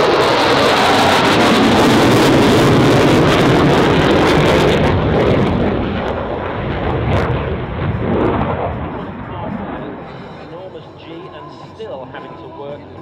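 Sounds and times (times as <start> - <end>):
jet engine rush: 0.0 - 12.4.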